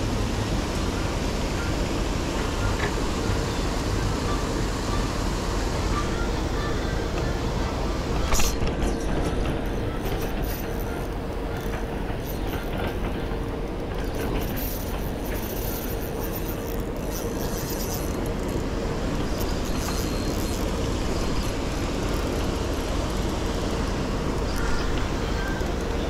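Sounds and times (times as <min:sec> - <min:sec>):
paddlewheel aerator drone: 0:00.0 - 0:26.0.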